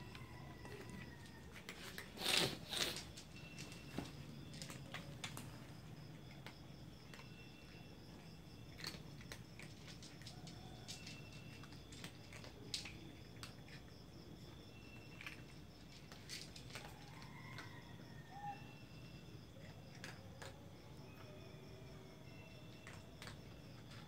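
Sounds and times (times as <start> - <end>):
cats eating crunching: 0.0 - 24.0.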